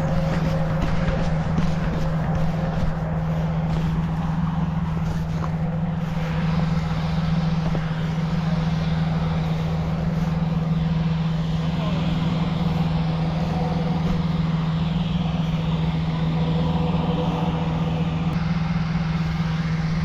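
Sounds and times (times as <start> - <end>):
inflator fan engine hum: 0.0 - 20.0
rushing air: 0.0 - 20.0.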